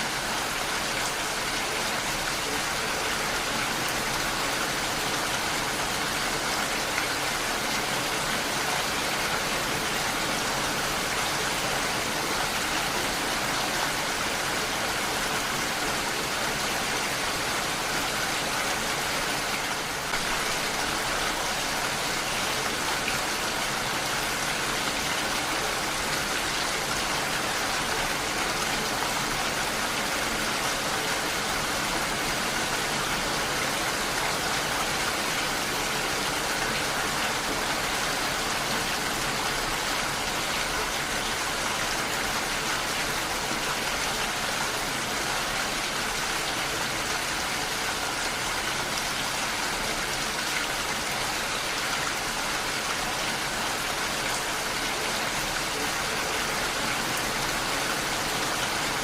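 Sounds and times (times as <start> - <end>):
heavy rainfall: 0.0 - 59.0.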